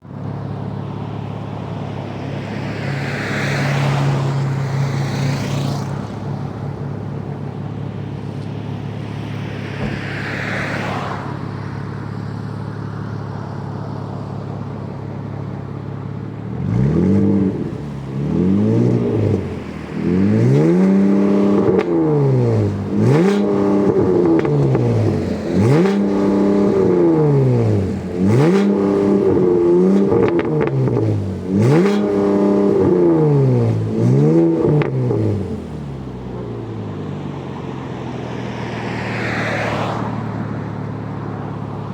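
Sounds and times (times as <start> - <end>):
car engine idling: 0.0 - 3.2, 3.8 - 39.1, 39.8 - 41.9
car engine revving: 0.4 - 41.9.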